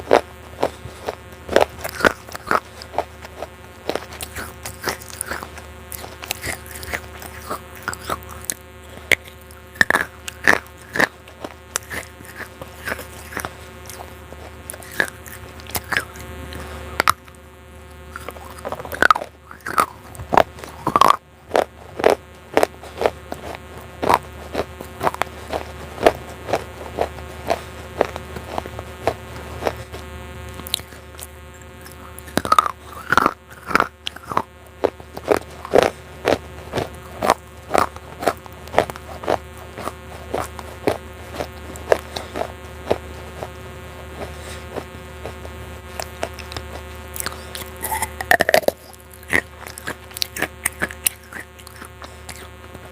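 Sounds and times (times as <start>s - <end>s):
buzzing hum: 0.0s - 52.9s
clay pieces crunching when chewed: 0.0s - 52.9s.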